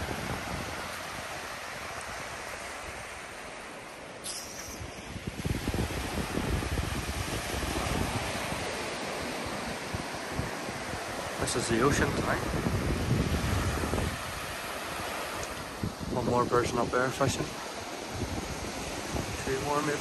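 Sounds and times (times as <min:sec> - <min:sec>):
waves breaking on beach: 0:00.0 - 0:20.0
wind buffeting microphone: 0:00.0 - 0:20.0.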